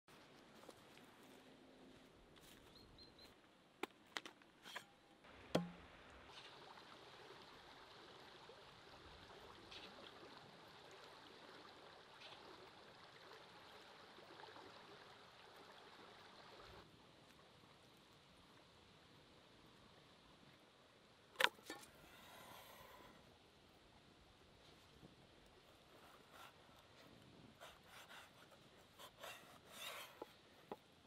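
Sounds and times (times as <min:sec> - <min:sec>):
faint outdoor ambience: 0:00.1 - 0:31.0.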